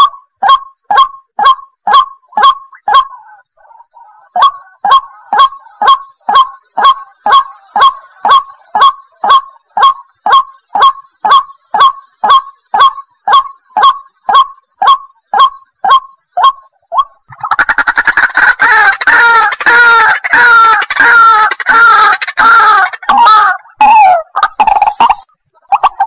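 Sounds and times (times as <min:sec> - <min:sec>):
waterhen calling: 0:01.9 - 0:26.0.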